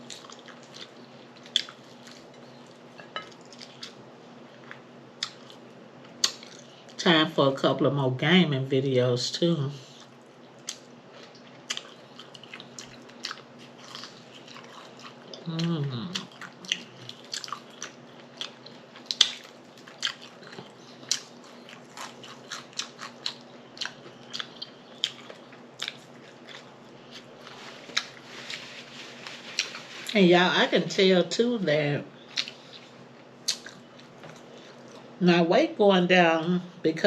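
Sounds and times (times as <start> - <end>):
person chewing and crunching: 0.0 - 6.8, 9.8 - 30.1, 32.3 - 35.2.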